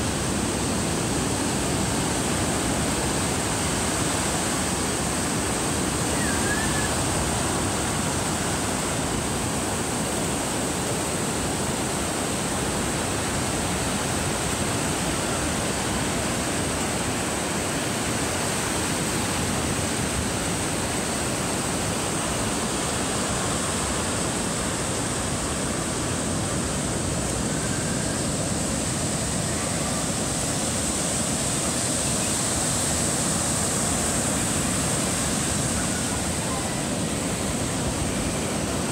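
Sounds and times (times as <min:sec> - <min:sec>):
sea surf breaking on beach: 0:00.0 - 0:38.9.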